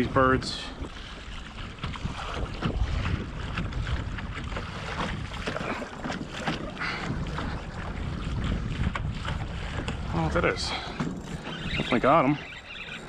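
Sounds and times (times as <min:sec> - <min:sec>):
water splashing against kayak hull: 0:00.0 - 0:13.0
wind rumble on microphone: 0:00.0 - 0:13.0.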